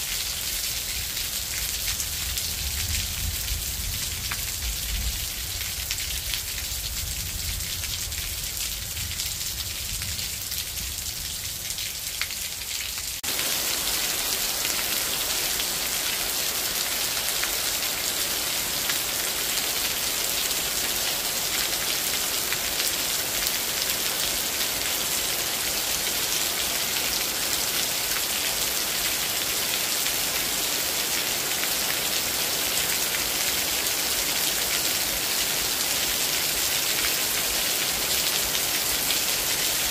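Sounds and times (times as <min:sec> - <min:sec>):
rain falling on trees and grass: 0:00.0 - 0:39.9.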